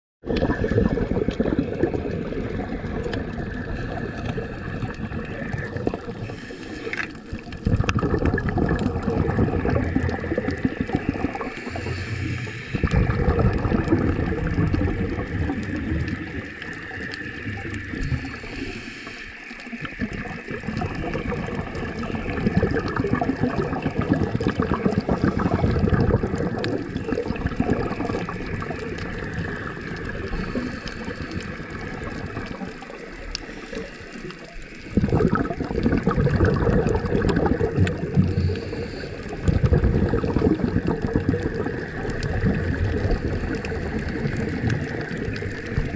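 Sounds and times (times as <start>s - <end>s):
low underwater rumble: 0.2s - 45.9s
underwater gurgling sloshing rush: 0.2s - 45.9s.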